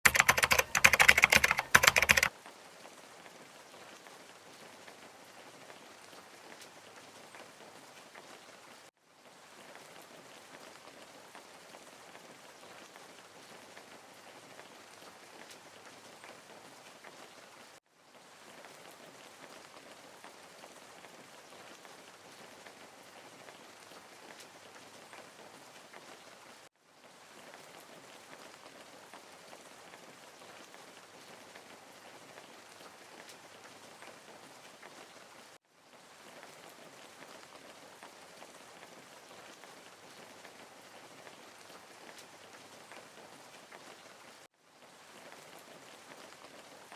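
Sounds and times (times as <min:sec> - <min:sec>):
faint rain-like hiss: 0:00.1 - 0:46.9.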